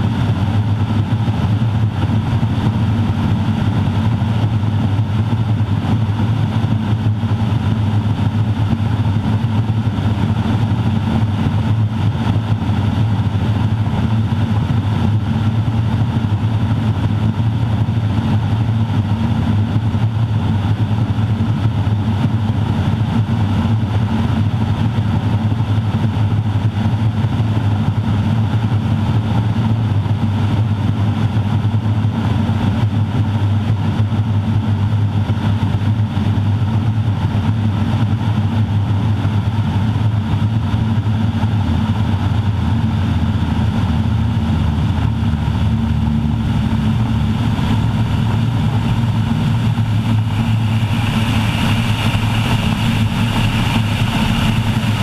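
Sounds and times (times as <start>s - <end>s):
turboprop engine drone in cockpit: 0.0s - 55.0s.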